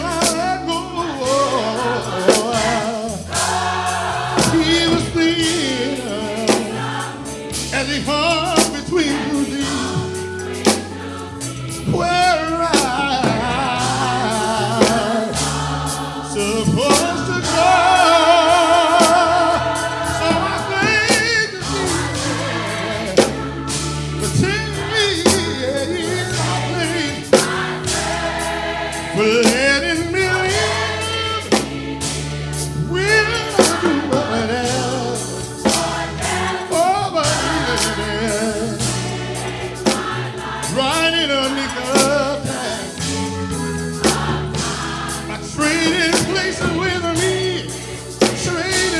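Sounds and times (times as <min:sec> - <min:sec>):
band with bass and drums: 0:00.0 - 0:48.9
gospel choir singing: 0:00.0 - 0:48.9
lead vocalist singing: 0:00.0 - 0:48.9.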